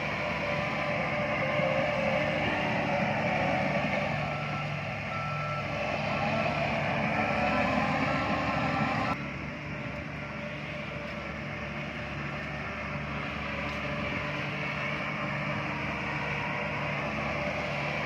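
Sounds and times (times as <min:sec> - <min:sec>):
diesel construction machinery: 0:00.0 - 0:18.0
low engine drone: 0:00.0 - 0:18.0
truck reversing beeper: 0:00.0 - 0:18.0.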